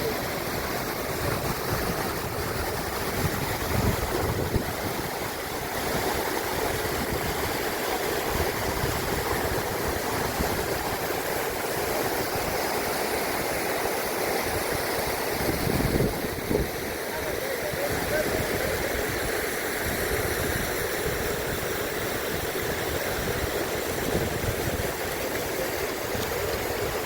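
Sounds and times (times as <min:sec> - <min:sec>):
rushing mountain water: 0:00.0 - 0:27.0.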